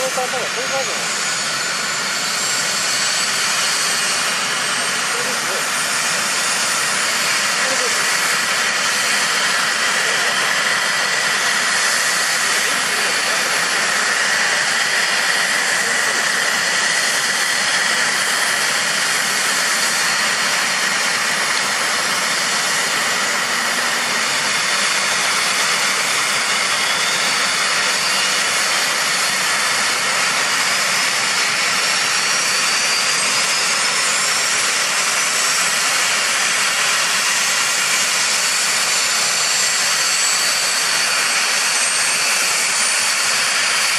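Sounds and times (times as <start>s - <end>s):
turbine whine and hiss: 0.0s - 43.9s.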